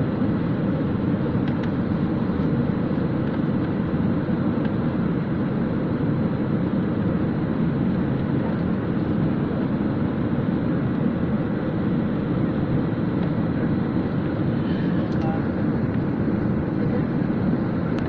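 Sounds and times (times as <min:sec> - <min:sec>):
aircraft cabin engine rush: 0:00.0 - 0:18.0.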